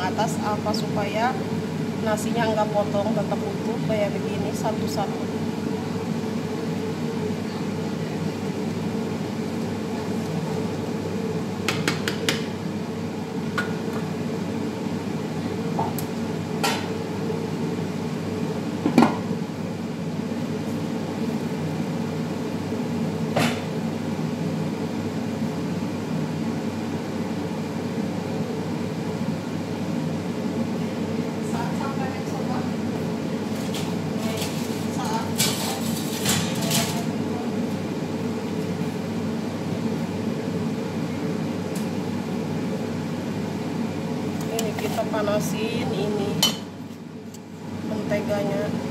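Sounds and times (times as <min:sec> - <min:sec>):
kitchen machine drone: 0:00.0 - 0:48.9.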